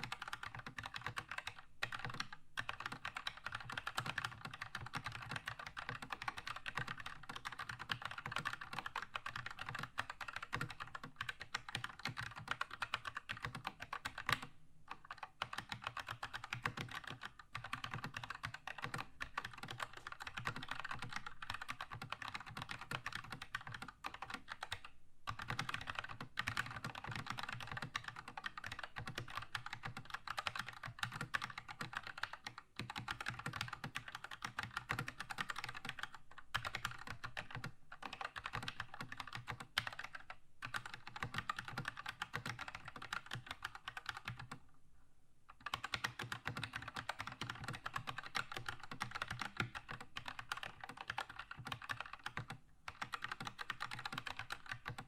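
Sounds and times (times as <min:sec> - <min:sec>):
mechanical keyboard typing: 0:00.0 - 0:44.6, 0:45.5 - 0:55.0.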